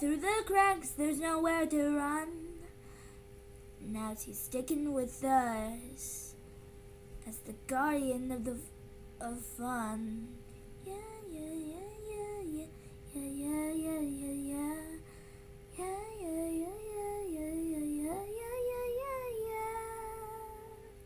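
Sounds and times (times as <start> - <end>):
girl singing without words: 0.0 - 2.8, 3.8 - 6.3, 7.2 - 15.1, 15.7 - 21.0.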